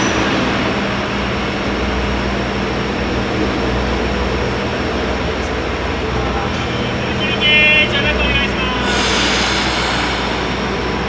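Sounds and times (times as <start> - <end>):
railcar engine humming: 0.0 - 11.0.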